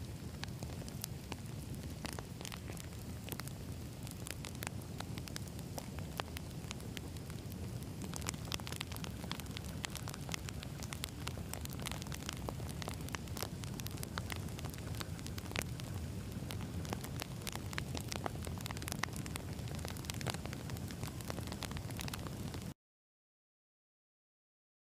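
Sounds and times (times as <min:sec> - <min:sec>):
low rumble of flames: 0:00.0 - 0:22.7
campfire crackles and pops: 0:00.0 - 0:22.8.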